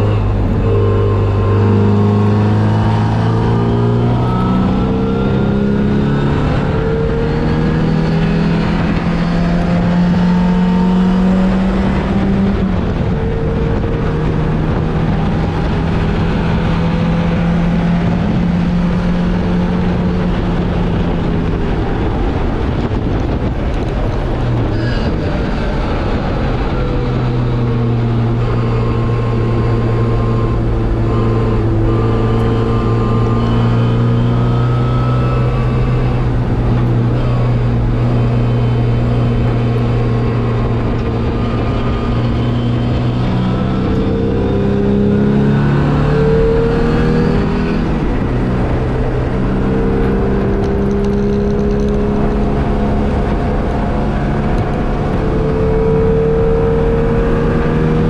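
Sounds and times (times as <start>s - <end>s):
racing car engine running hard: 0.0s - 58.0s.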